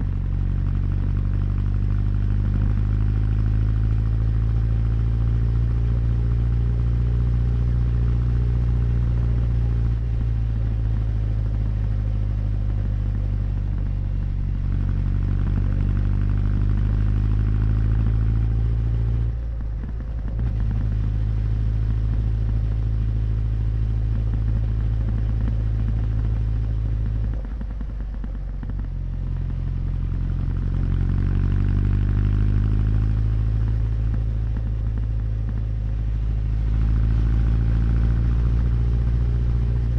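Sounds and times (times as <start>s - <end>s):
motorcycle exhaust running: 0.0s - 39.9s.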